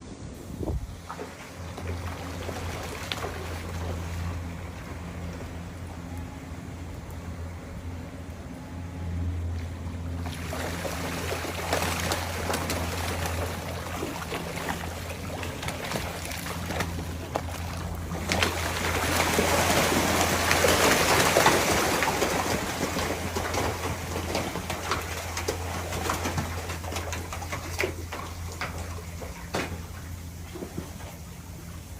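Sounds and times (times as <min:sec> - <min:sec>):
low motor hum: 0:00.0 - 0:31.9
water splashing and churning: 0:00.0 - 0:31.9.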